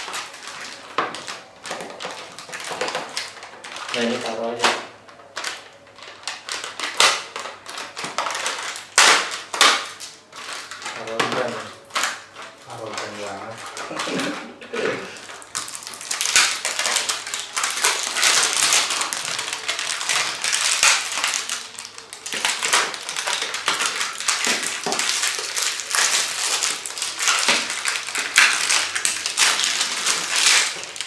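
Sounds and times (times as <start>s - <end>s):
plastic packaging crinkling: 0.0s - 31.0s.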